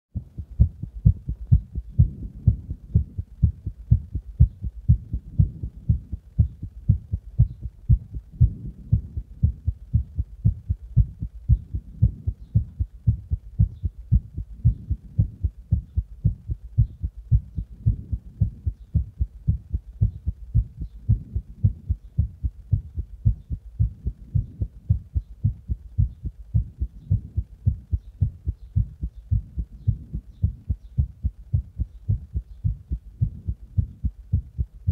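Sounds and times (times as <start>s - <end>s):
heartbeat: 0.2s - 34.9s.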